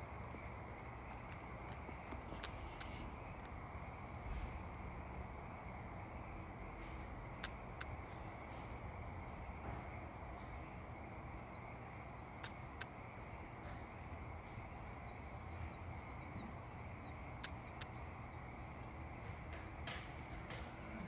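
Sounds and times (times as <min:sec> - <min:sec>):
low steady background hiss: 0:00.0 - 0:21.0.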